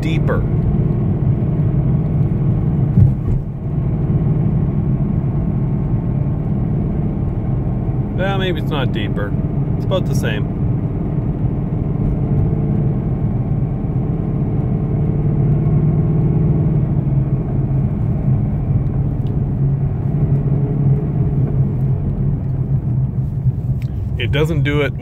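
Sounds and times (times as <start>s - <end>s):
car engine droning in cabin: 0.0s - 25.0s.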